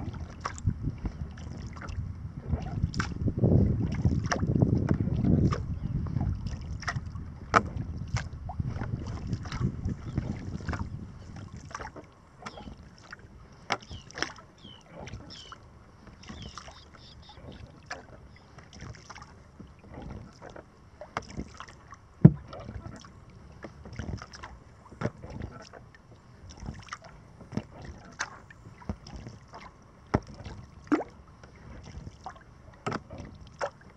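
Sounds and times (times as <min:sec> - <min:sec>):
wind rumble on microphone: 0:00.0 - 0:20.5, 0:22.2 - 0:33.9
water splashing around kayak hull: 0:00.0 - 0:33.9.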